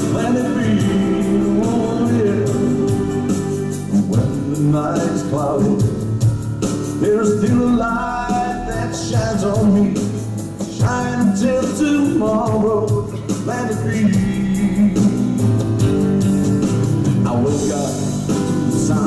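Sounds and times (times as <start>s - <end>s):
slow keyboard song: 0.0s - 19.0s.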